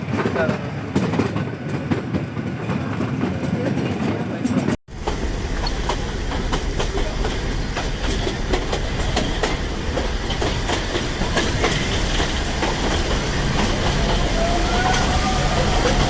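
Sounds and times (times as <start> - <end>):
train wheels clicking over rail joints: 0.0 - 16.0.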